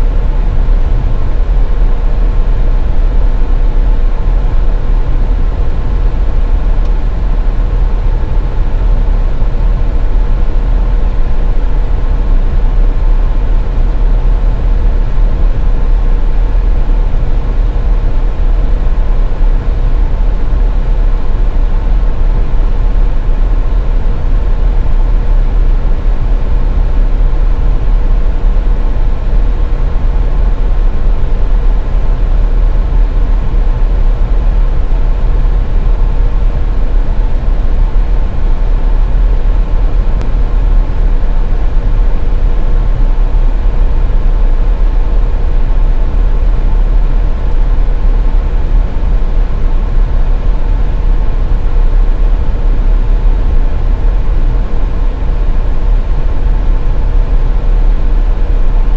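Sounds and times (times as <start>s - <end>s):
mid-pitched hum: 0.0s - 58.9s.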